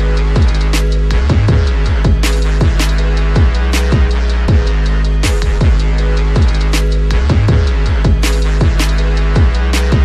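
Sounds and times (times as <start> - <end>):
background music with drum beat: 0.0 - 10.0.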